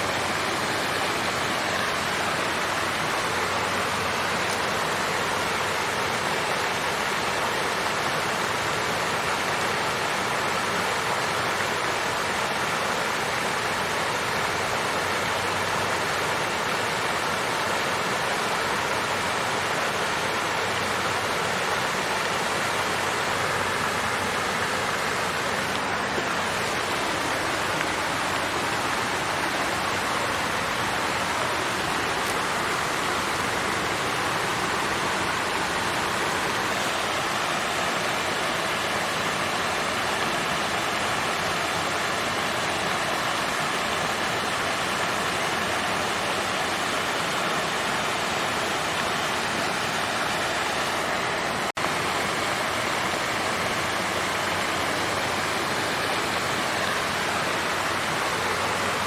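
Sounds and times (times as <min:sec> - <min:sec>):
water fountain splashing: 0:00.0 - 0:59.0.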